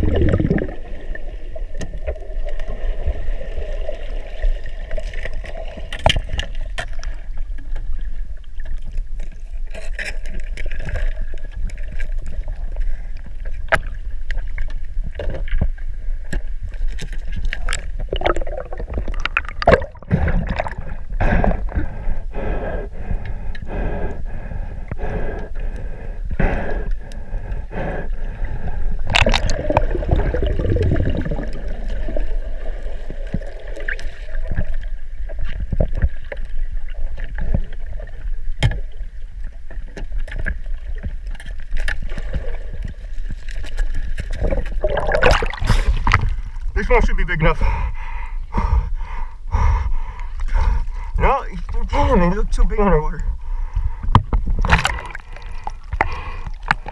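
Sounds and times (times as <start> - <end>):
gurgling water: 0.0 - 56.9.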